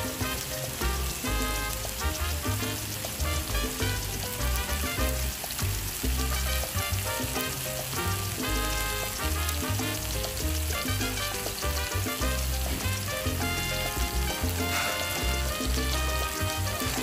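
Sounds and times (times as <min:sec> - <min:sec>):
meat sizzling on a grill pan: 0:00.0 - 0:17.0
music with bass beat: 0:00.0 - 0:17.0.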